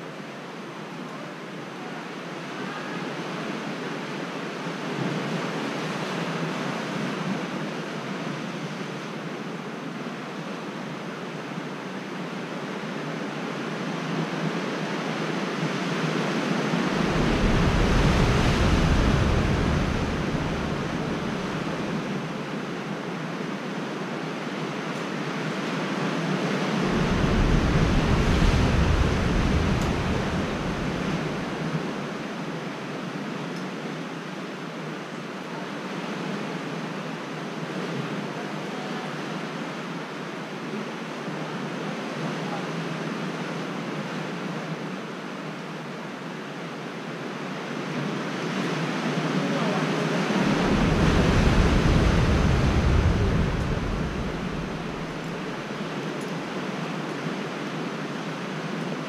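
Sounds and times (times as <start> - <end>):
deep rumble of waves: 0.0 - 59.0
sea surf on rocky shore: 1.3 - 59.0.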